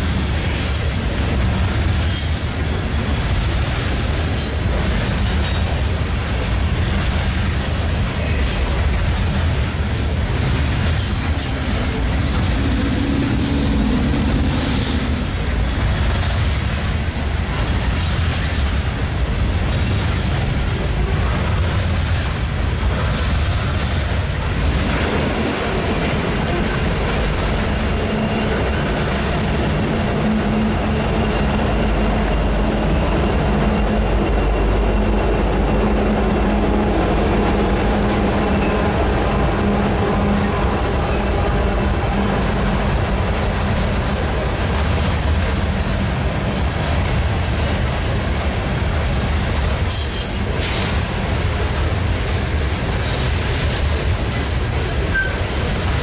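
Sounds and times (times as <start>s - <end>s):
diesel locomotives humming: 0.0s - 56.0s
freight train rolling past: 0.0s - 56.0s.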